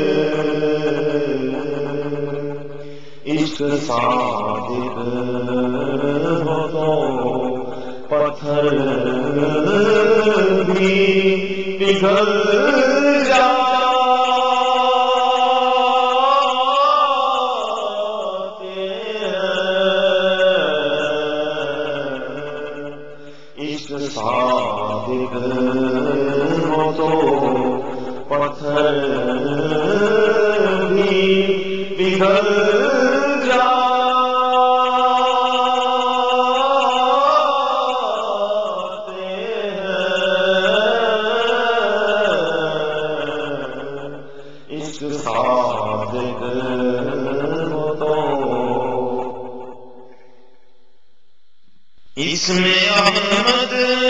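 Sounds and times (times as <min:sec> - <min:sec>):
man singing devotional chant: 0:00.0 - 0:50.0, 0:52.1 - 0:54.0.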